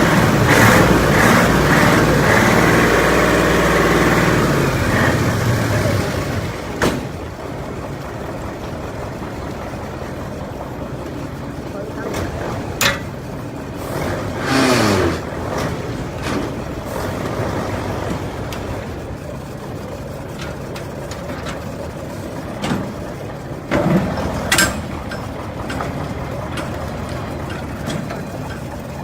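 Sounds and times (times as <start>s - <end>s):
vehicle engine and road hum: 0.0s - 29.0s.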